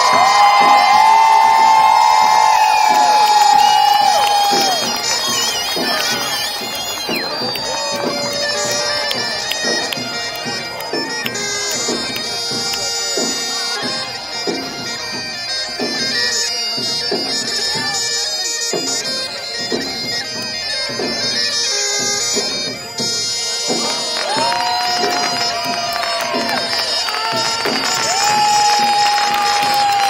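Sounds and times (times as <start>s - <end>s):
bagpipe music: 0.0s - 30.0s.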